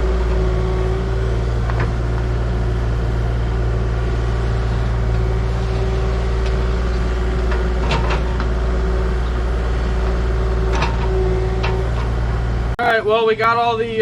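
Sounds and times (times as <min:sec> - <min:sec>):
heavy equipment engine running: 0:00.0 - 0:14.0.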